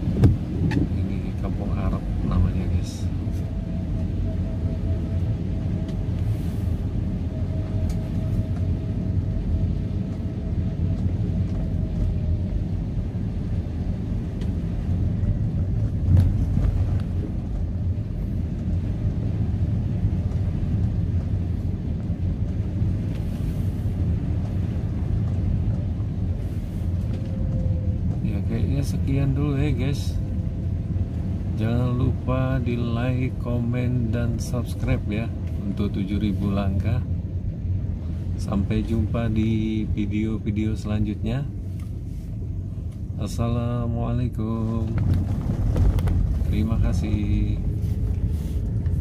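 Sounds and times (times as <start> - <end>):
car engine and tyre rumble: 0.0 - 49.0.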